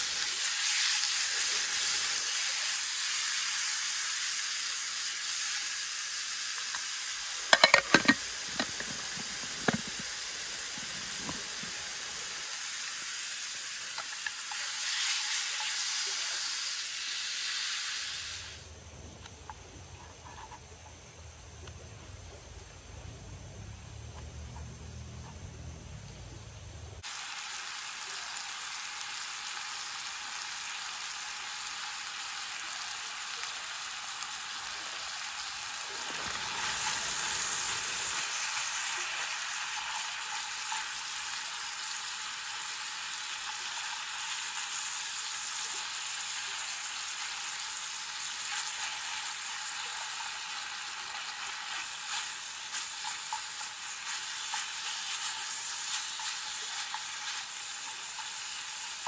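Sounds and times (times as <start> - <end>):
beef and onions sizzling in a pan: 0.0 - 18.8, 27.0 - 59.0.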